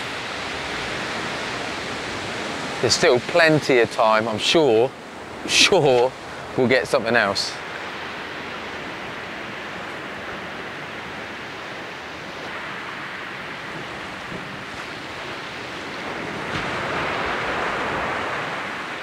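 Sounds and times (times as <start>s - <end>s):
sea surf washing on shore: 0.0s - 19.0s.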